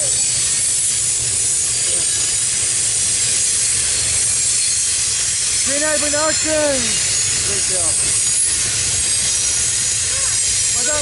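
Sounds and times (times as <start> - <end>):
freight train wheels rumbling: 0.0 - 11.0
hiss: 0.0 - 11.0
wheel squeal: 0.0 - 11.0.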